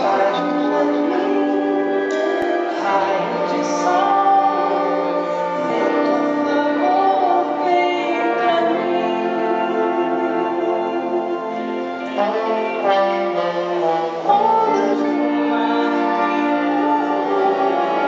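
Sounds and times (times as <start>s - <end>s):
instrumental accompaniment: 0.0s - 18.0s
woman singing into microphone: 0.0s - 18.0s.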